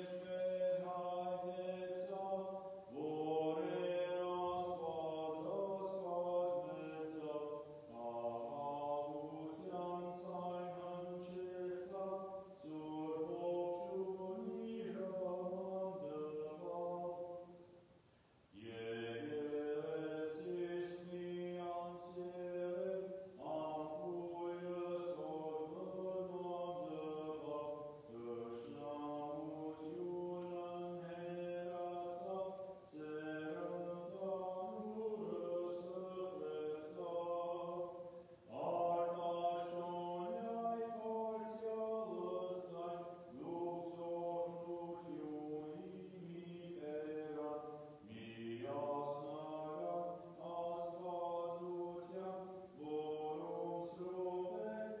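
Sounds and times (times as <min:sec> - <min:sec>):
liturgical chant in long held notes: 0:00.0 - 0:55.0.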